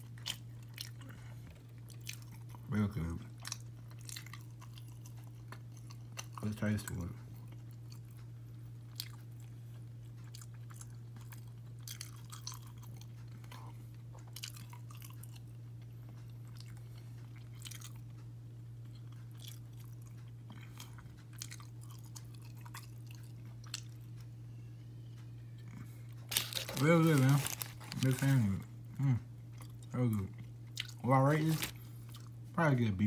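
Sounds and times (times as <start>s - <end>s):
person chewing crunchy food: 0.0s - 24.4s, 25.6s - 28.5s, 29.4s - 32.4s
low electrical hum: 0.0s - 33.0s.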